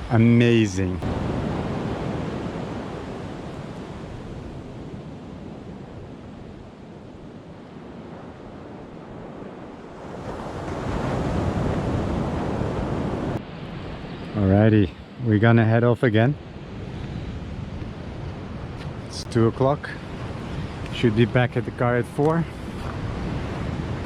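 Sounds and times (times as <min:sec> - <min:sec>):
wind on microphone: 0:00.0 - 0:15.5, 0:16.3 - 0:24.0
ocean surf washing onto beach: 0:00.0 - 0:24.0.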